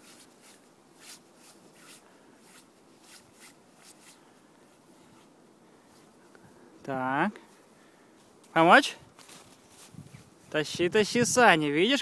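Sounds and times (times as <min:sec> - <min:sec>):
footsteps crunching in snow: 0:00.0 - 0:06.3, 0:07.4 - 0:10.8.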